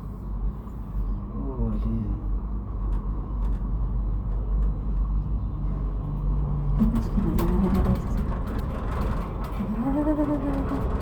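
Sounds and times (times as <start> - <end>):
cable car rumble: 0.0 - 11.0.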